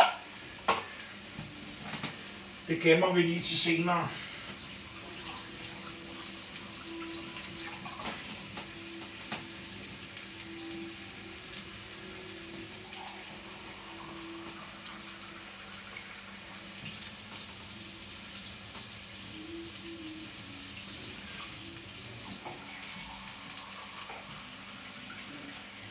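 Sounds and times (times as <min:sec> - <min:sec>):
food frying in pan: 0:00.0 - 0:25.9
water running from tap: 0:00.0 - 0:25.9.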